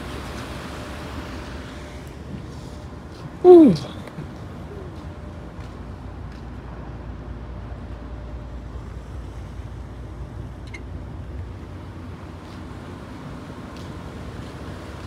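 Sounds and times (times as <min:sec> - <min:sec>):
ferry engine low rumble: 0:00.0 - 0:15.0.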